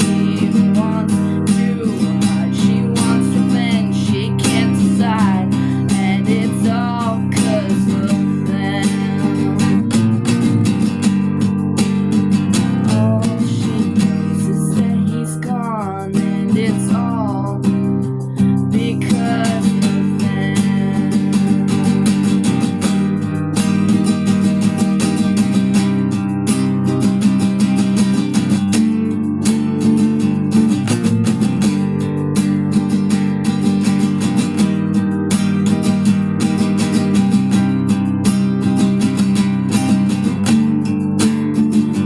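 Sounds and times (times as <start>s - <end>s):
acoustic guitar chords: 0.0s - 42.0s.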